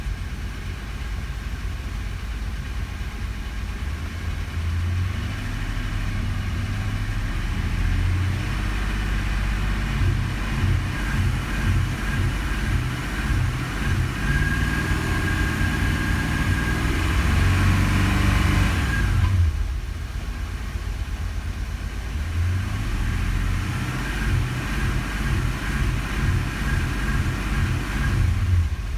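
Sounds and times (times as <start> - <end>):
car engine stumbling: 0.0 - 28.9.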